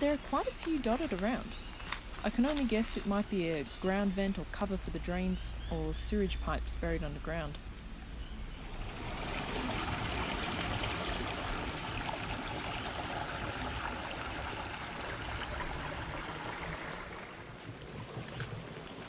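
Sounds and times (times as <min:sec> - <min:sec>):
creek water trickling over rocks: 0:00.0 - 0:19.0.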